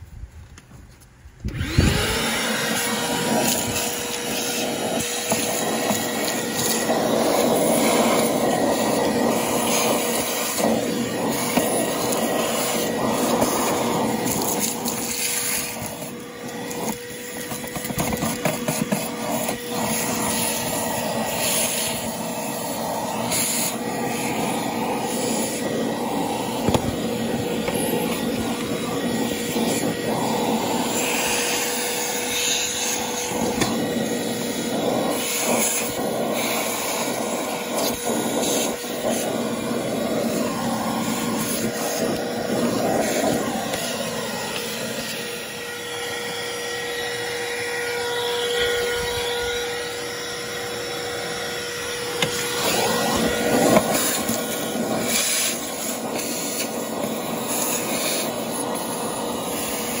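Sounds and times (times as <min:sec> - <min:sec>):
vacuum cleaner whine: 0:01.4 - 1:00.0.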